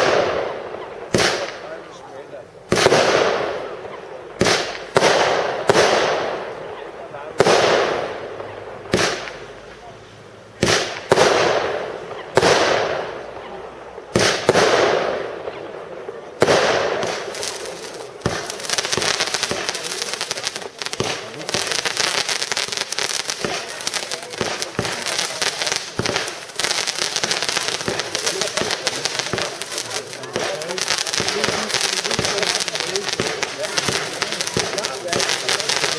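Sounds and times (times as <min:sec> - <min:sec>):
firework crackling: 0:00.0 - 0:35.9
loud firework bursts: 0:00.0 - 0:35.9.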